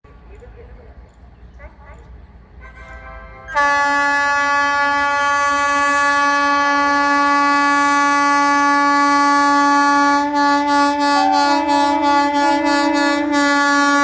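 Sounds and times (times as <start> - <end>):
locomotive air horn blast: 2.6 - 14.0.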